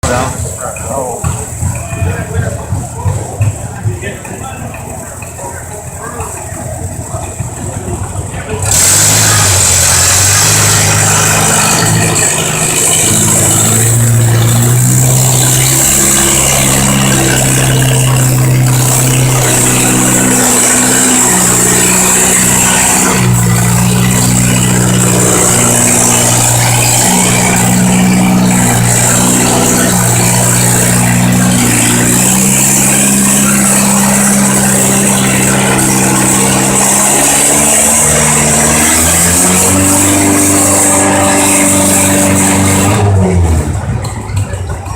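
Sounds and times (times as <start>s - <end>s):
tractor engine revving under load: 0.0s - 44.9s.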